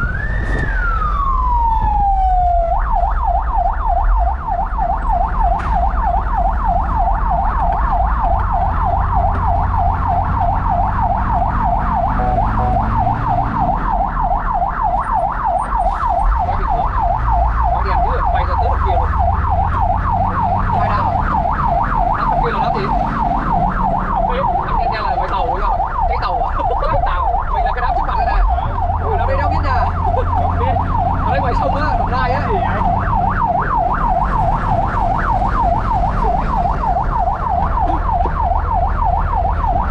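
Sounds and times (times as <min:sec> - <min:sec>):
fire truck siren yelping: 0:00.0 - 0:39.9
truck engine rumble: 0:00.0 - 0:39.9.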